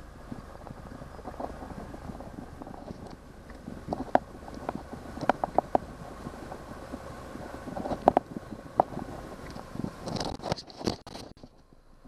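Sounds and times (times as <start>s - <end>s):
wind on microphone: 0.0s - 11.0s
outboard motor running: 0.0s - 11.5s.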